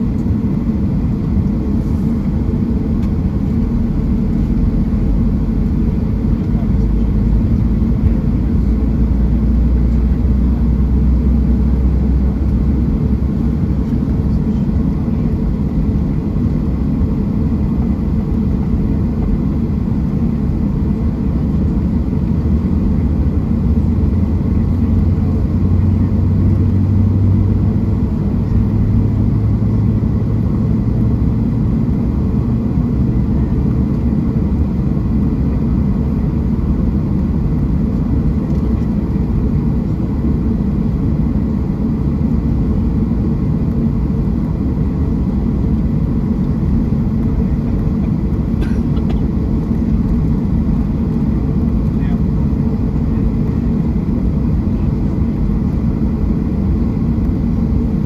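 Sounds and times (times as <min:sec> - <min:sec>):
airplane cabin jet engine rumble: 0:00.0 - 0:58.0.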